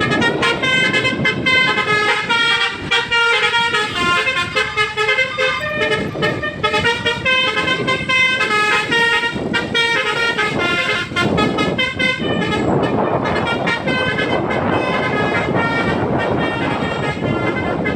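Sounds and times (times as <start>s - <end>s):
multi-tone musical air horn: 0.0s - 17.9s.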